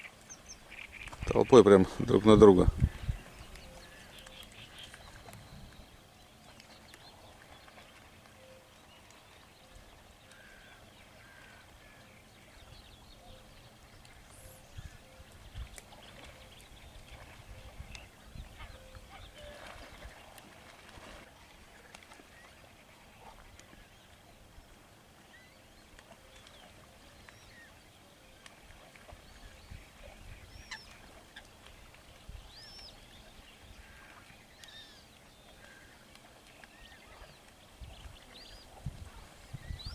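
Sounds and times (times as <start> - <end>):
faint flock of birds calling: 0.0 - 39.9.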